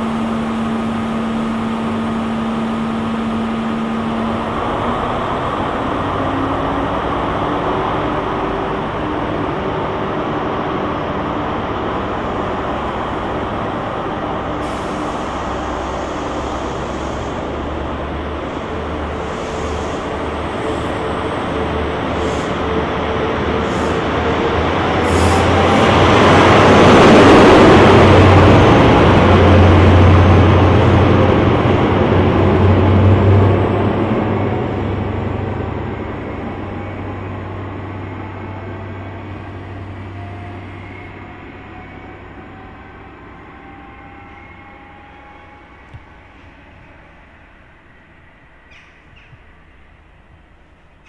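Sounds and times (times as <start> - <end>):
deep train engine note: 0.0 - 50.8
diesel train engine running: 0.0 - 51.0.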